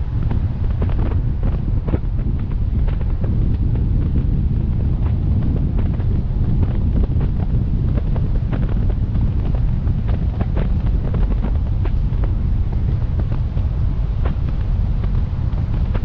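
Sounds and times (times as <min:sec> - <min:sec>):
wind rumbling over microphone: 0:00.0 - 0:16.0.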